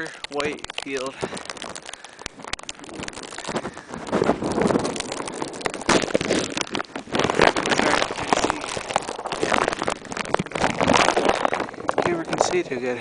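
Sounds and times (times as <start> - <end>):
plastic bag crackling on microphone: 0.0 - 13.0.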